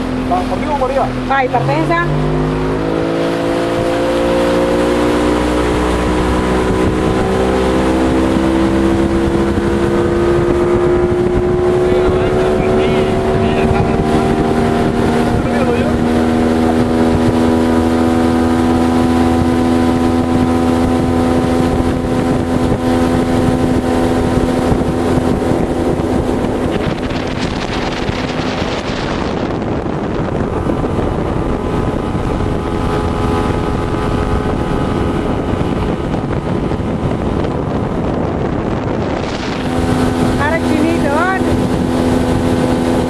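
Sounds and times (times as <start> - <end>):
motorboat engine running: 0.0 - 43.0
wind and water rushing: 0.0 - 43.0.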